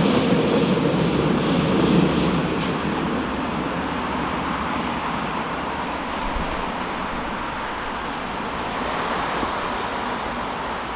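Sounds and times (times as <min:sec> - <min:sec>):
road traffic hiss: 0:00.0 - 0:03.8, 0:05.6 - 0:10.9.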